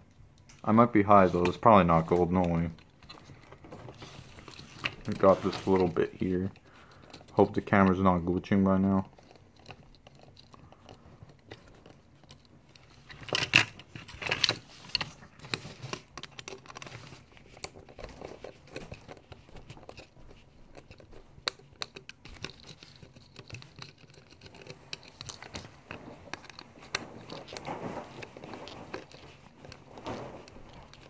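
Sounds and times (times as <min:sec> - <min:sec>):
plastic parts clicking and creaking: 0:00.0 - 0:31.0.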